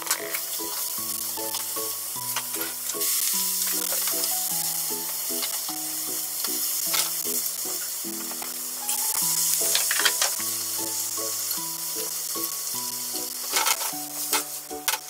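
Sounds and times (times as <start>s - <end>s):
fish and radish sizzling in a pan: 0.0s - 15.0s.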